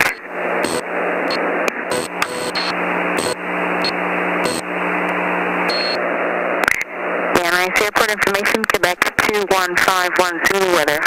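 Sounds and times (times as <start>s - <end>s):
low steady hum: 0.0s - 11.0s
radio static hiss: 0.0s - 11.0s.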